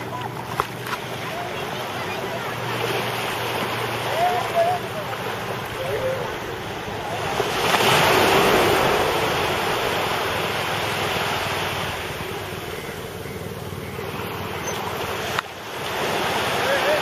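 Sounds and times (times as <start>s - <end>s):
sea waves breaking: 0.0s - 17.0s.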